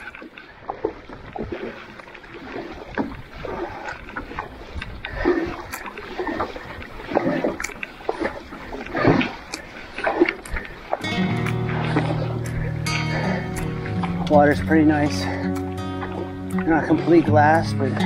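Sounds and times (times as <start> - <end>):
paddle strokes splashing water: 0.0 - 18.0.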